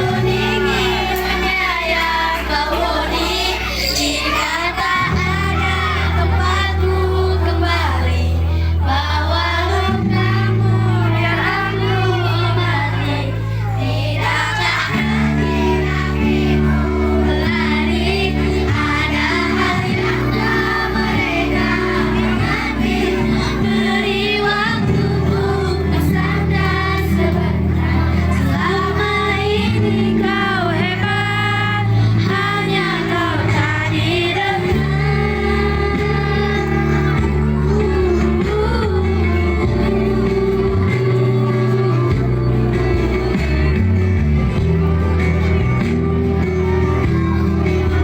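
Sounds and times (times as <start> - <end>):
instrumental backing with low chords: 0.0 - 48.0.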